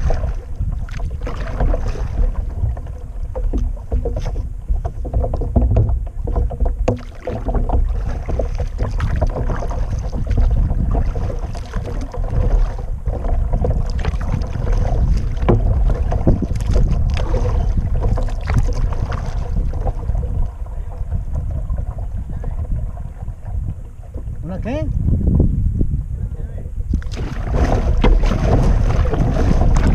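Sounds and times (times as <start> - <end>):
paddle splashing in water: 0.0 - 25.5, 26.9 - 29.9
wind rumble on microphone: 0.0 - 29.9.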